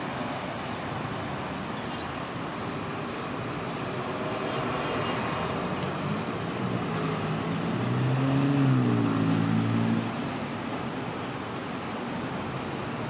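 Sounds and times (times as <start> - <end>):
road traffic noise: 0.0 - 13.0
vehicle engine hum passing: 0.0 - 13.0.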